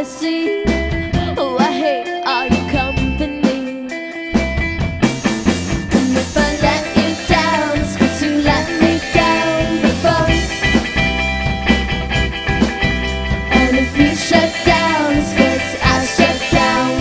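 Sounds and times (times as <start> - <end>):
bass guitar: 0.0 - 17.0
guitar: 0.0 - 17.0.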